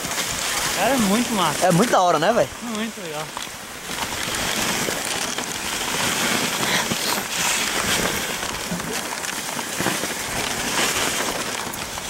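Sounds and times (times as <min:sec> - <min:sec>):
sled runners crunching on snow: 0:00.0 - 0:12.0.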